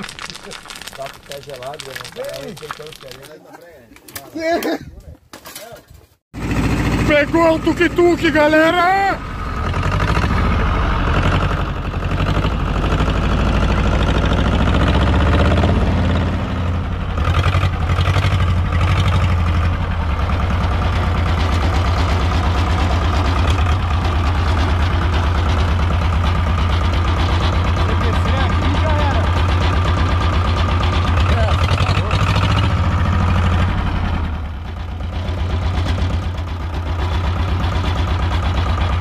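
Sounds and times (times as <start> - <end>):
cart engine running: 6.4 - 39.0.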